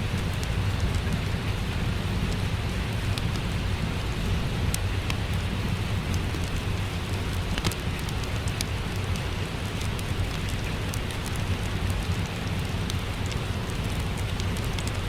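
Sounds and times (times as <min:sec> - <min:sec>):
fire crackling: 0:00.0 - 0:15.0
steady rain: 0:00.0 - 0:15.0.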